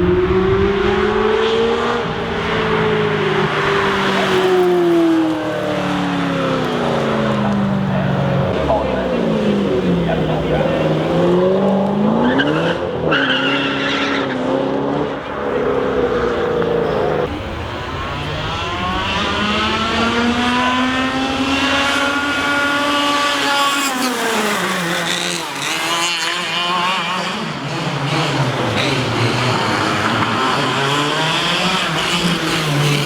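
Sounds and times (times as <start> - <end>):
sports car engines revving: 0.0 - 33.0.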